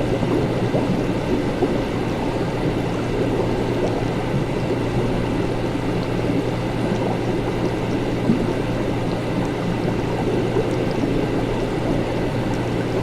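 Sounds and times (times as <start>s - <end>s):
liquid bubbling and gurgling: 0.0s - 13.0s
low machine hum: 0.0s - 13.0s.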